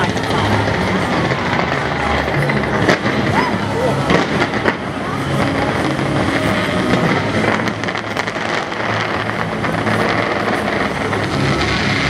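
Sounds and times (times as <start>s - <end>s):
fireworks crackling and popping: 0.0s - 12.0s
steady fireworks rumble: 0.0s - 12.0s.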